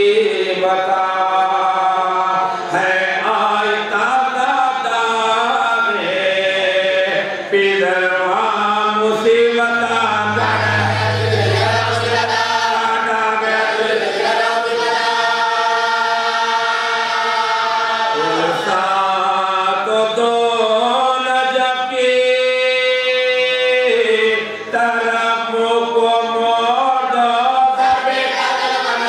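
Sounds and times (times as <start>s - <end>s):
men chanting a lament in unison: 0.0s - 29.0s.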